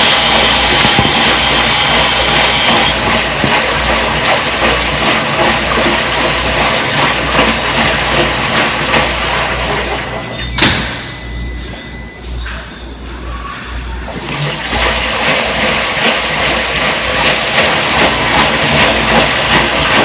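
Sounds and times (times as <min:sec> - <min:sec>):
washing machine running: 0:00.0 - 0:20.0.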